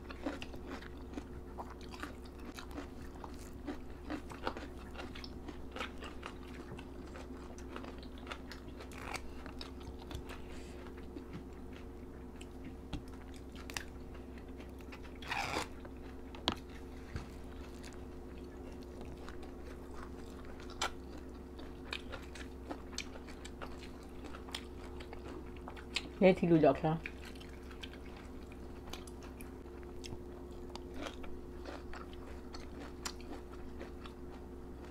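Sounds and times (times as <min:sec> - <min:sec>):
chewing and crunching: 0:00.0 - 0:34.9
steady low hum: 0:00.0 - 0:34.9.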